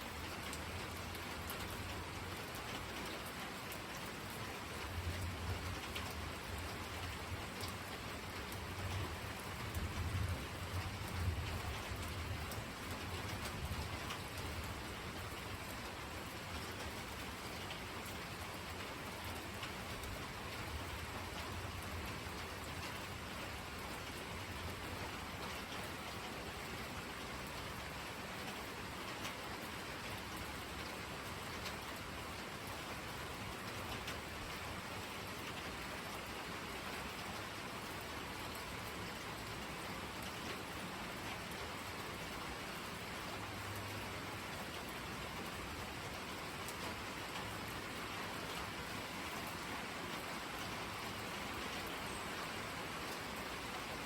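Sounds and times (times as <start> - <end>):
raindrops ticking on surfaces: 0.0 - 54.0
steady rainfall: 0.0 - 54.0.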